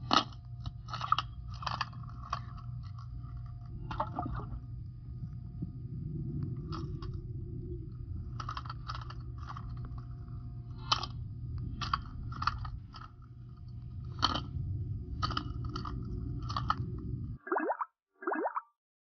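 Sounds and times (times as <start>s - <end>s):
muffled underwater rumble: 0.0s - 17.4s.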